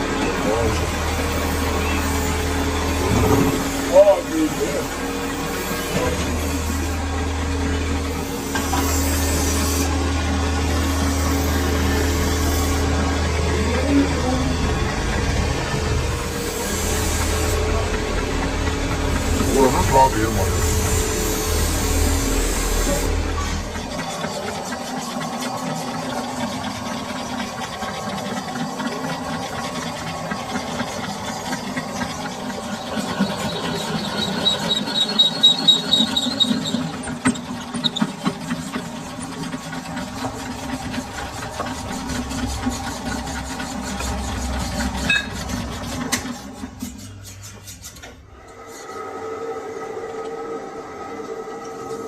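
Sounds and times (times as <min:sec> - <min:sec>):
machine hum: 0:00.0 - 0:46.7
lathe tool squealing against metal: 0:00.2 - 0:14.6, 0:16.2 - 0:48.9.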